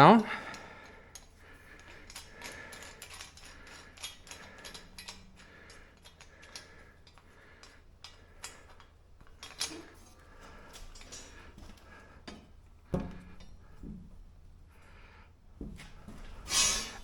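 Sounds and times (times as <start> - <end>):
hand tools clicking and tapping: 0.3 - 14.2.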